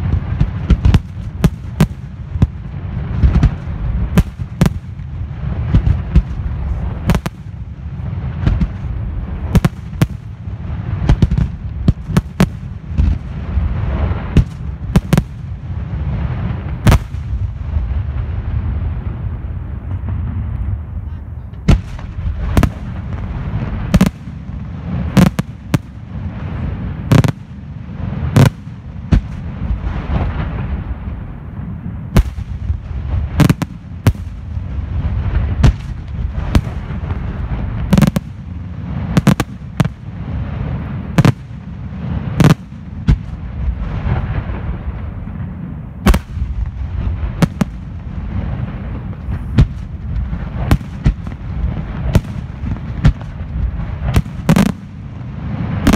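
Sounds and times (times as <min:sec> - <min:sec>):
fireworks bursting with sharp bangs: 0:00.0 - 0:55.9.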